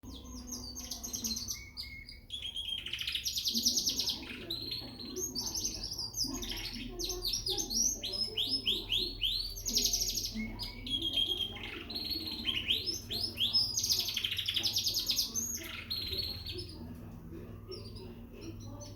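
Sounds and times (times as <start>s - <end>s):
canary singing trills: 0.0s - 18.9s.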